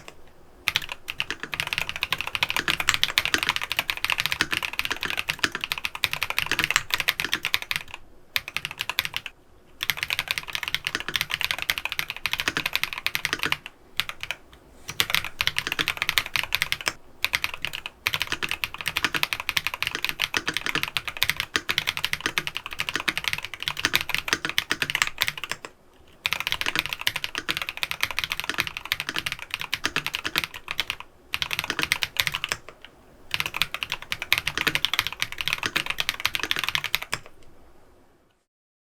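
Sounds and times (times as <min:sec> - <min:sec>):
mechanical keyboard typing: 0:00.0 - 0:37.4.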